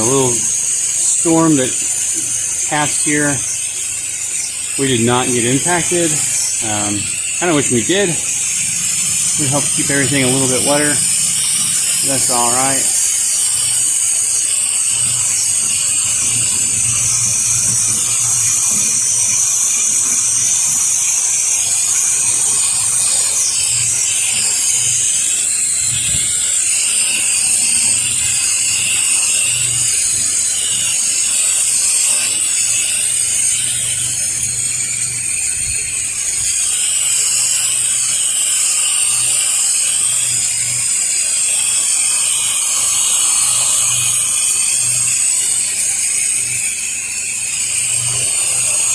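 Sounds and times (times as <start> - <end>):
machine droning: 0.0 - 48.9
pressure washer spraying water: 0.0 - 48.9.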